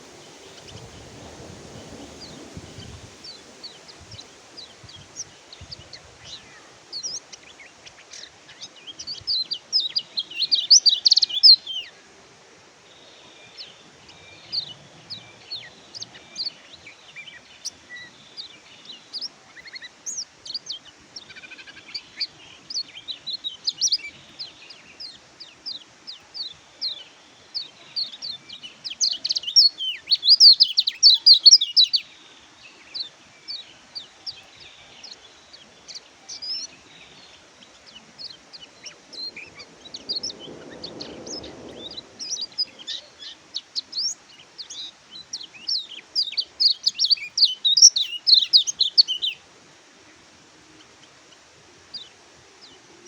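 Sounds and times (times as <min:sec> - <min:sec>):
bird twittering song: 0:00.0 - 0:12.0, 0:12.9 - 0:49.4.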